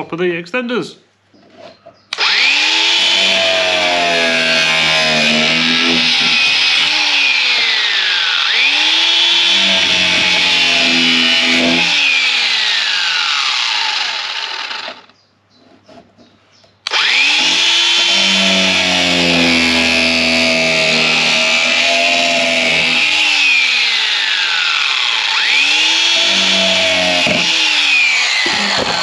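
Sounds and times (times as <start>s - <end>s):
angle grinder cutting: 2.1s - 15.1s, 16.8s - 29.0s.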